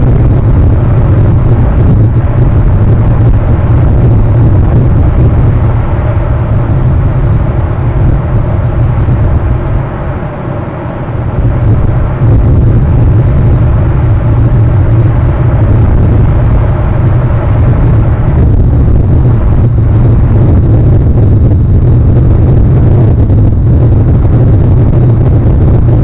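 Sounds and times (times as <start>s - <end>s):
wind rumble: 0.0s - 26.0s.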